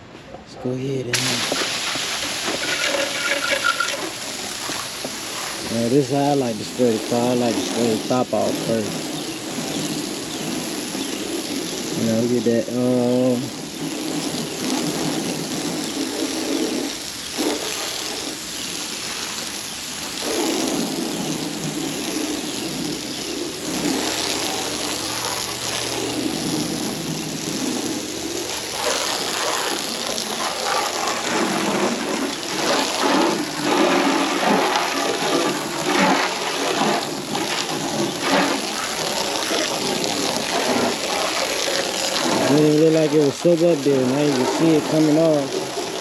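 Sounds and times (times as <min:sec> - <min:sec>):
hose water spraying on car: 0:01.1 - 0:46.0.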